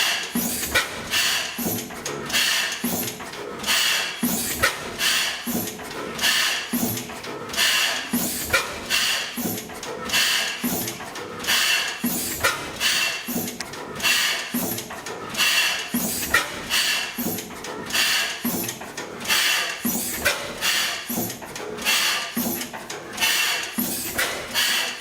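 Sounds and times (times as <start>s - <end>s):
gas engine running slowly: 0.0s - 25.0s.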